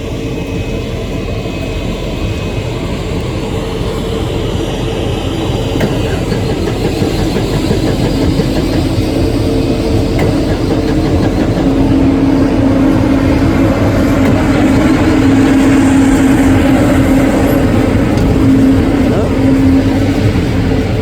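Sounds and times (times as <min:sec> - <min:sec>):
engine droning: 0:00.0 - 0:21.0
humming tone: 0:00.0 - 0:21.0.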